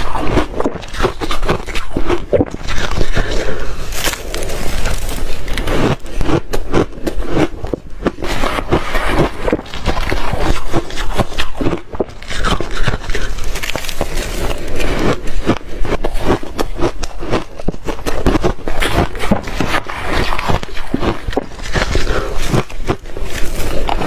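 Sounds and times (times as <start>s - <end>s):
person crunching ice: 0.0s - 24.0s.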